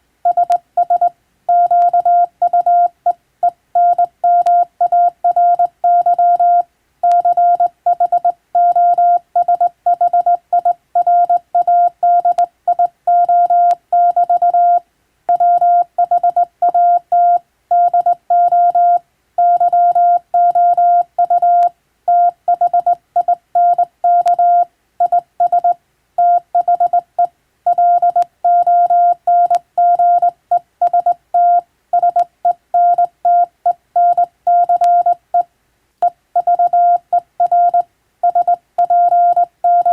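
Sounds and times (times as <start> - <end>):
morse code beeps: 0.3 - 3.2, 3.8 - 39.9.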